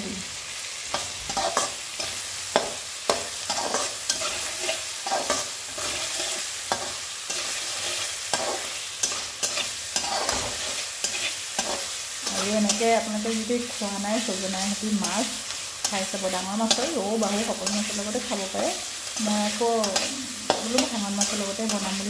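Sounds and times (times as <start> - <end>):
tomatoes sizzling in a pan: 0.0 - 22.0
metal spatula scraping a pan: 0.9 - 13.4, 14.2 - 22.0.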